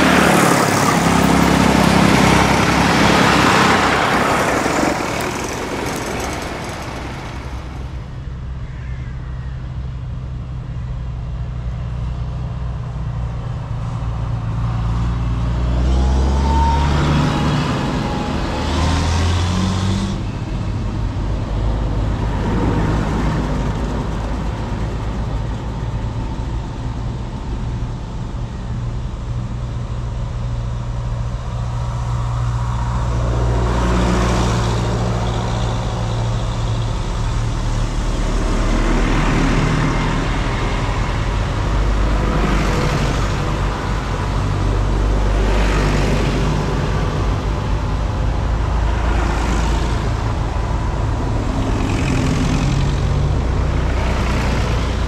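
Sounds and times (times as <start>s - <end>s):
tractor engines driving past: 0.0s - 55.0s.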